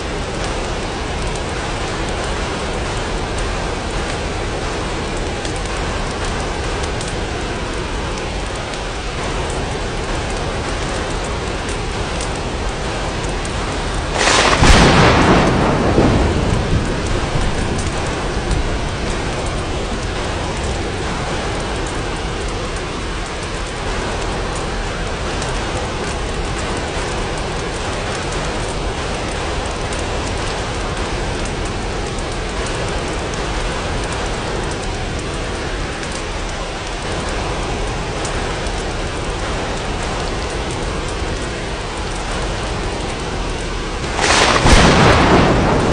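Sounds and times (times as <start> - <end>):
rain on glass: 0.0 - 45.9
thunder crack and rumble: 0.0 - 45.9.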